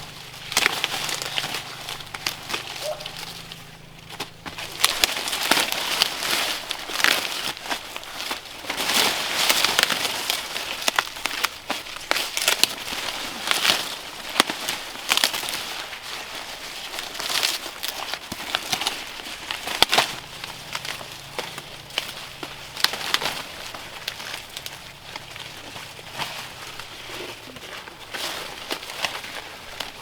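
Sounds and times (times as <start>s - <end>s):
dry plant material crackling: 0.0s - 30.0s.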